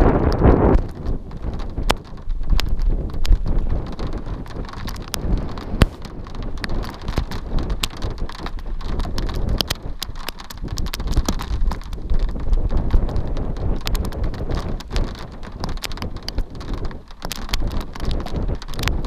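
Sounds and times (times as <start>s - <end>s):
raindrops ticking near microphone: 0.0s - 19.0s
wind rumble on microphone: 0.0s - 19.0s.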